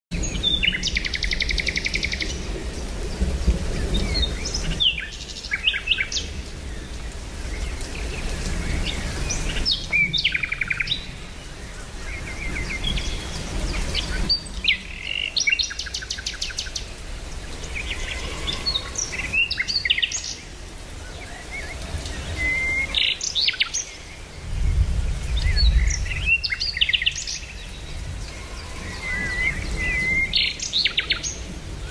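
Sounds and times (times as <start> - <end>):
songbirds chirping and trilling: 0.2 - 31.9.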